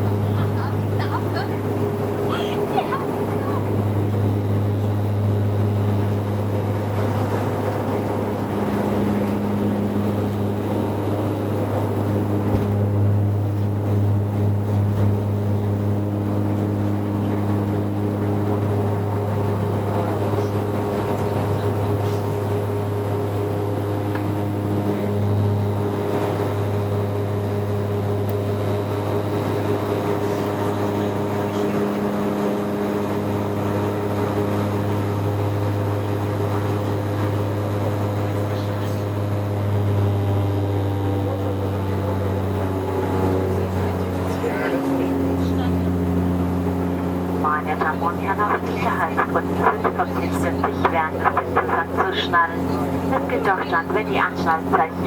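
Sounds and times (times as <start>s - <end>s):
airliner engine drone in cabin: 0.0s - 55.0s.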